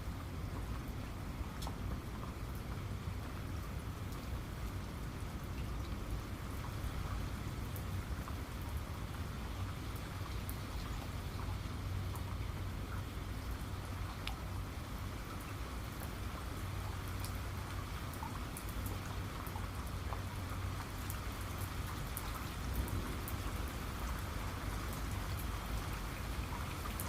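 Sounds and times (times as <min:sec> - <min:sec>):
rain falling: 0:00.0 - 0:27.0
raindrops ticking: 0:00.1 - 0:27.0.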